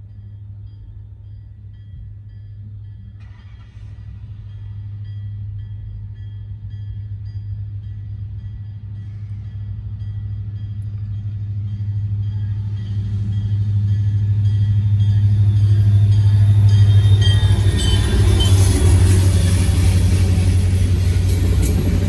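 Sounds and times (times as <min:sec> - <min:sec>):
diesel locomotives passing: 0:00.0 - 0:22.0.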